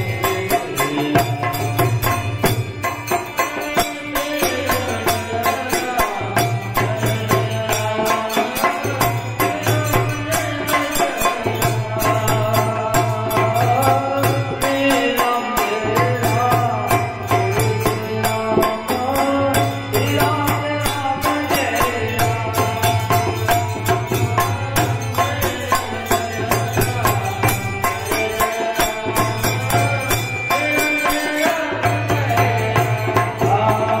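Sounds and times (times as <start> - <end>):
dholak drum beat: 0.0 - 34.0
harmonium: 0.0 - 34.0
men singing folk song: 3.6 - 34.0.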